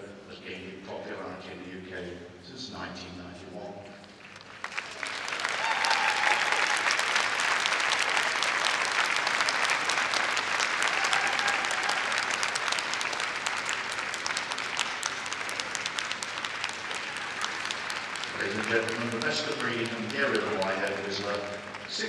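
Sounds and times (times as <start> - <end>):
large crowd applauding: 4.1 - 22.0.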